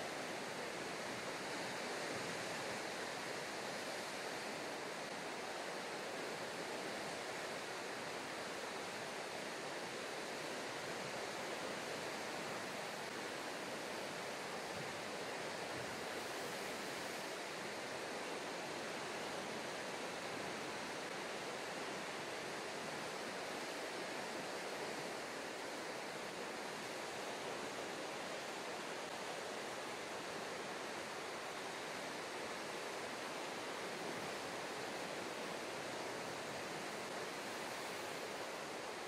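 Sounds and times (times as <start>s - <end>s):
seawater rushing on shore: 0.0s - 39.0s.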